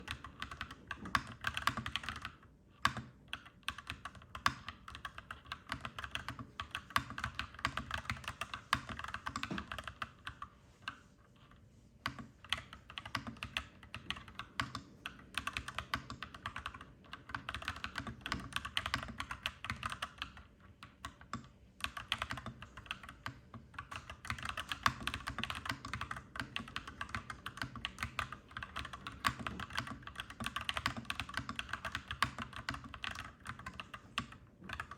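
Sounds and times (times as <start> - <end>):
mechanical keyboard typing: 0.0 - 10.5, 12.0 - 34.9.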